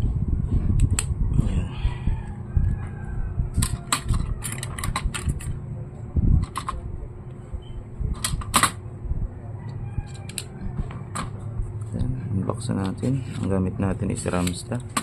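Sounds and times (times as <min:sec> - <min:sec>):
low rumbling handling noise: 0:00.0 - 0:15.0.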